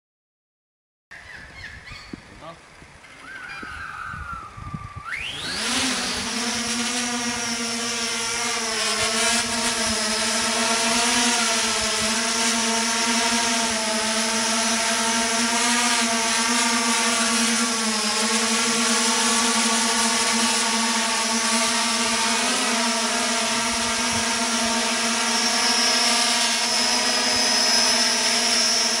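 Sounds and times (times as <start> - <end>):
drone propeller buzz: 3.0 - 29.0.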